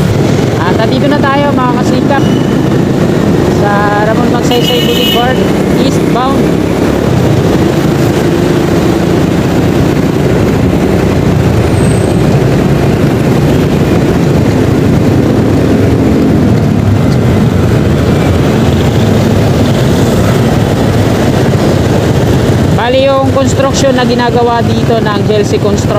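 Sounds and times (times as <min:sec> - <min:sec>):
motorcycle engine running: 0:00.0 - 0:25.9
road noise: 0:00.0 - 0:25.9.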